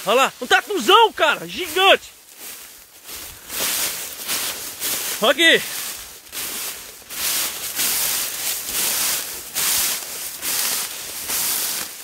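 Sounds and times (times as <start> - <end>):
tall grass swishing and rustling: 0.0 - 12.0.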